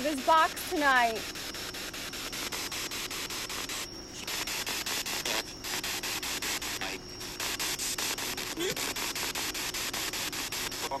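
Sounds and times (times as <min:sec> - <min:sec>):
chopped radio static: 0:00.0 - 0:11.0.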